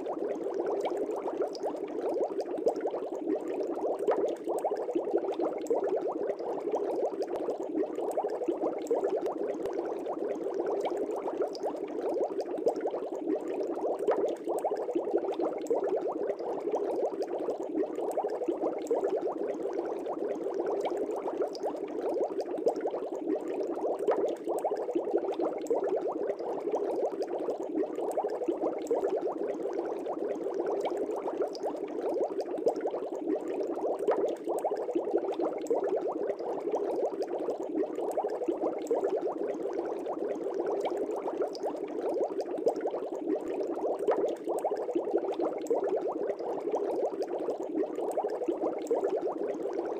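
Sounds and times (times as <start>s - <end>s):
aquarium air bubbles: 0.0s - 49.9s.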